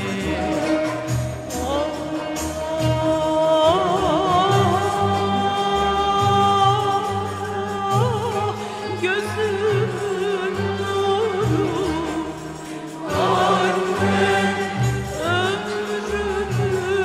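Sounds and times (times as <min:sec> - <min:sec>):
instrumental accompaniment: 0:00.0 - 0:17.0
woman singing folk song: 0:00.0 - 0:17.0.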